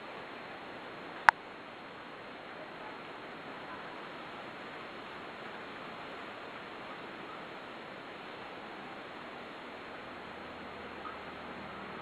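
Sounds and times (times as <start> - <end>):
rushing background noise: 0.0 - 12.0.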